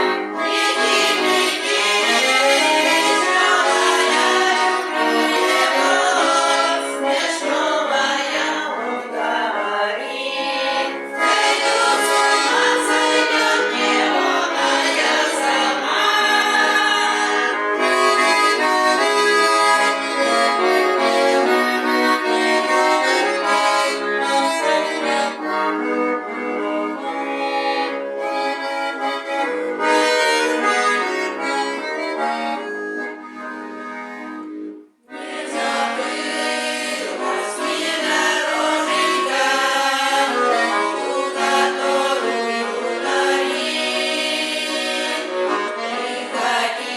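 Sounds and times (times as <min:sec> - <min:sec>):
accordion playing folk tune: 0:00.0 - 0:46.9.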